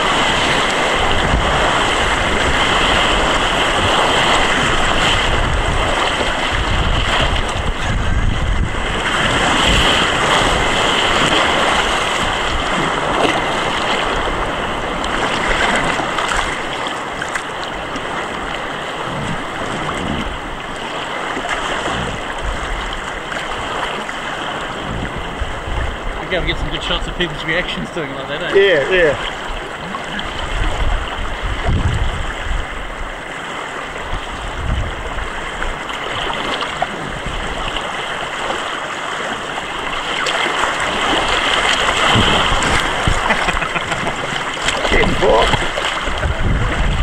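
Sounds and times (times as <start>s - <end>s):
wind rumbling on microphone: 0.0s - 27.8s, 28.6s - 47.0s
river rapids rushing: 0.0s - 47.0s.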